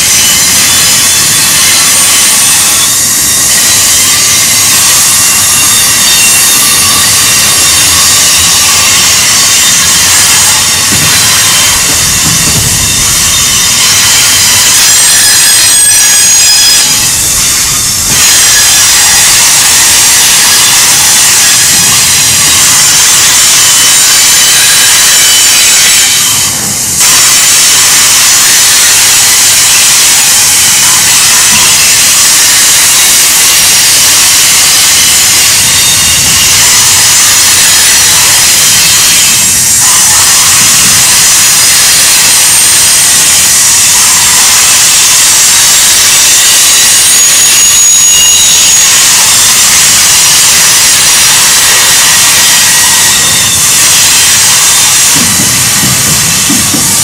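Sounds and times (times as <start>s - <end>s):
train wheels grinding on rail: 0.0s - 57.0s.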